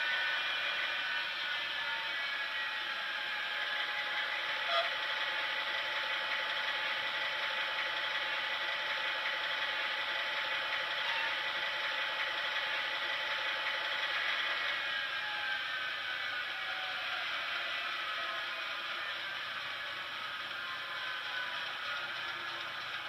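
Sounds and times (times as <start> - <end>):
thin diesel engine sound from speaker: 0.0 - 23.0.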